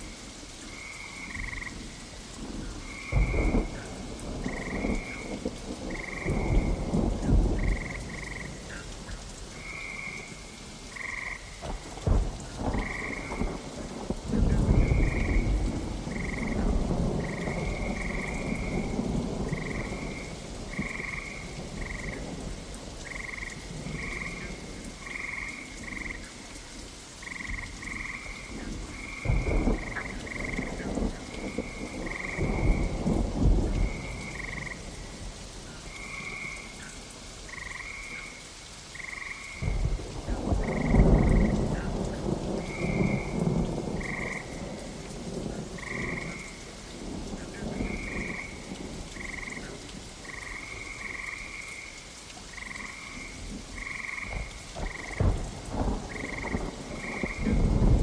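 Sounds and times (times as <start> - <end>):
steady rain: 0.0 - 58.0
frog chorus croaking: 0.6 - 26.5, 27.2 - 58.0
thunder rumbling: 0.7 - 26.4, 27.2 - 38.2, 39.0 - 51.6, 52.5 - 58.0.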